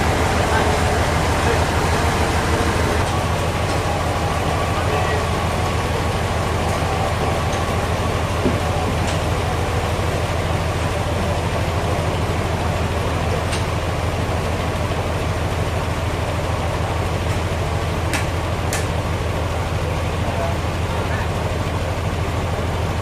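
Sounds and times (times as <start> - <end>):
sawmill machinery humming: 0.0 - 23.0.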